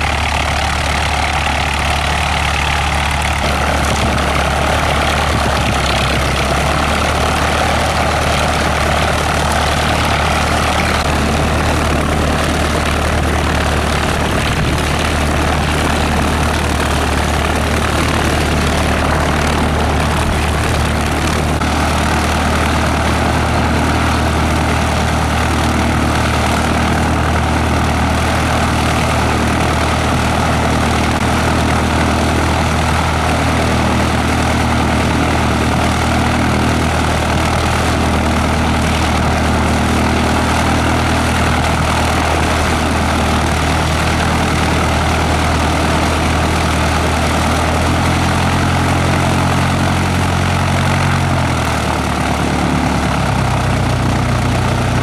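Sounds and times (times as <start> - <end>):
propeller plane engine idling: 0.0 - 55.0.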